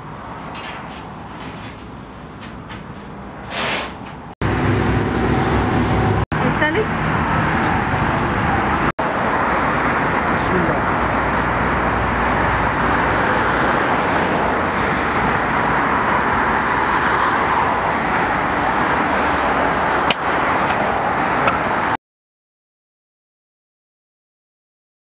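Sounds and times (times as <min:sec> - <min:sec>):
outdoor street noise: 0:00.0 - 0:22.0.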